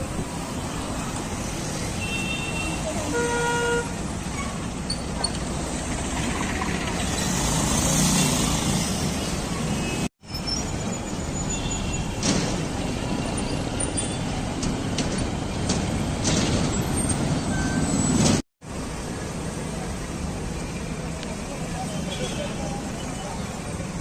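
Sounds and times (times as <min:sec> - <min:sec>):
vehicles running past: 0:00.0 - 0:24.0.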